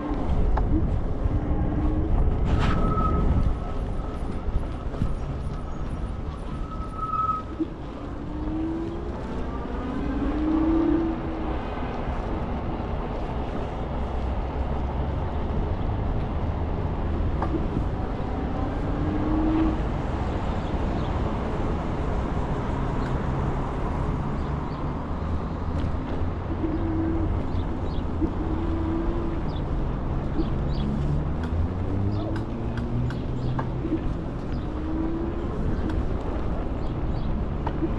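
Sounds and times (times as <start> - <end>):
electric bike ride rumble: 0.0 - 37.9.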